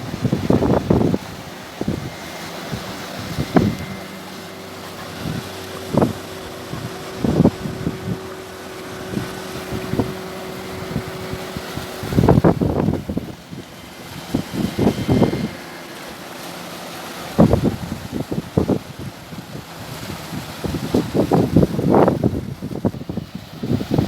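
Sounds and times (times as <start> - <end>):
steady low hum: 0.0 - 23.9
surf washing against breakwater: 0.0 - 24.0
wind buffeting microphone: 0.0 - 24.0.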